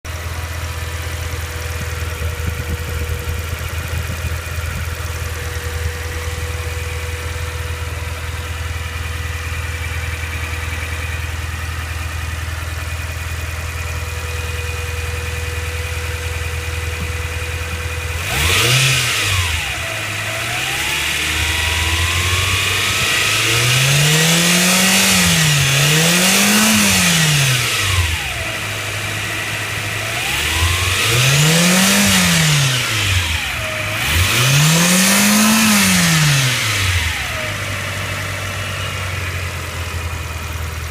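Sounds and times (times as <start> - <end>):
car engine idling and revving: 0.0 - 40.9
turbocharger whine: 0.1 - 40.9.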